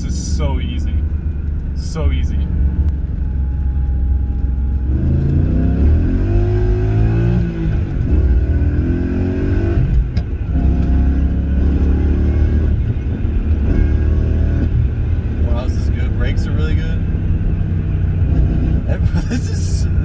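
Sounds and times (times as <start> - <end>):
car engine accelerating through gears: 0.0 - 20.0.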